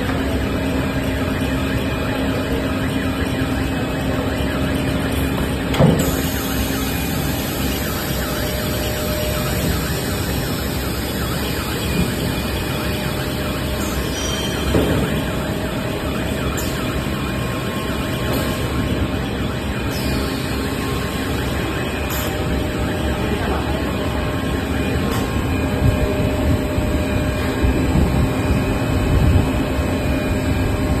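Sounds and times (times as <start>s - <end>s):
loud steady machine din: 0.0s - 31.0s.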